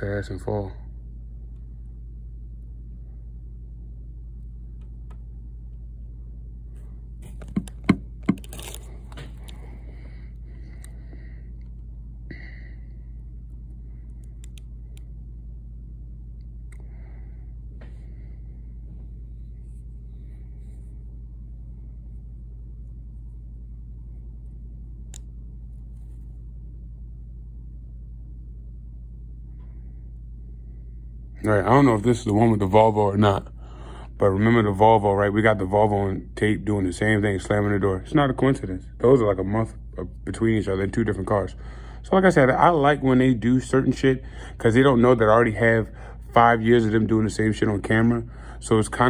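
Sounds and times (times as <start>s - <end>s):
low hum inside car: 0.0s - 49.0s.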